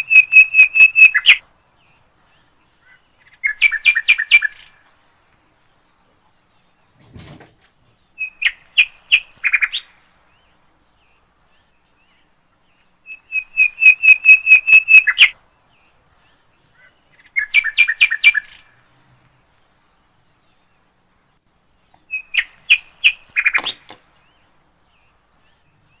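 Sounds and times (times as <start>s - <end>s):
songbird chirping: 0.0s - 26.0s.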